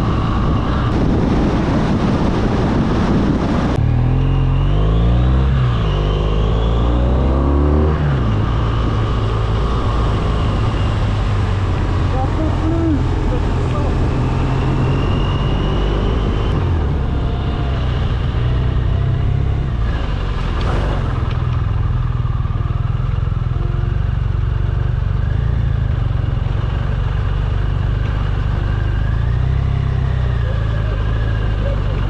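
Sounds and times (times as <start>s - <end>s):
motorcycle engine drone: 0.0s - 32.0s.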